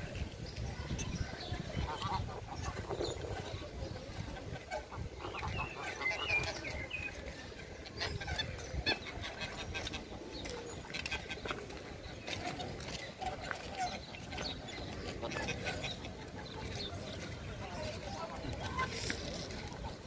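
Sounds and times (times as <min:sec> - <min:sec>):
outdoor background noise: 0:00.0 - 0:20.0
small birds chirping: 0:00.0 - 0:20.0.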